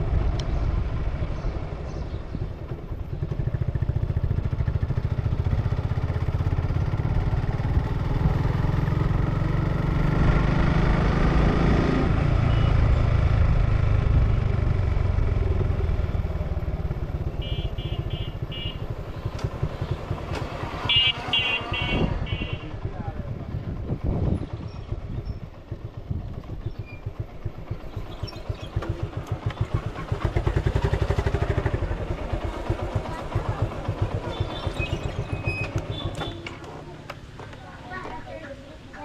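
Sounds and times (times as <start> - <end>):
motorcycle engine running: 0.0 - 37.6.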